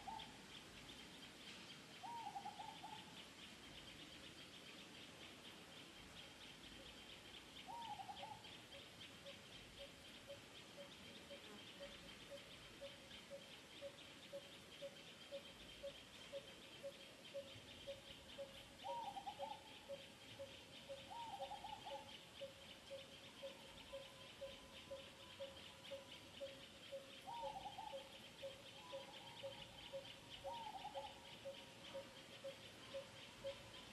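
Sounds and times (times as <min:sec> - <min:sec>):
bird warbling calls: 0:00.0 - 0:01.2, 0:01.9 - 0:04.6, 0:06.6 - 0:33.9
insects buzzing: 0:00.0 - 0:33.9.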